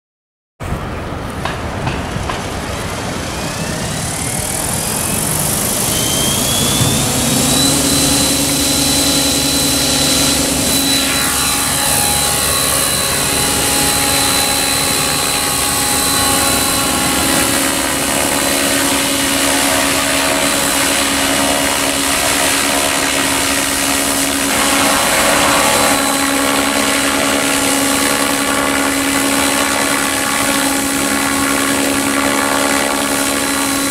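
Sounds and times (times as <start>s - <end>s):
model helicopter motor whine: 2.4s - 33.9s.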